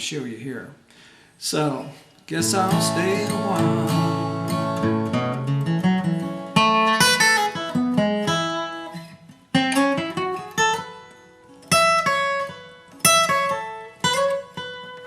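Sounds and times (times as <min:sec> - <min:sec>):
acoustic guitar flatpicking: 0:02.3 - 0:15.0.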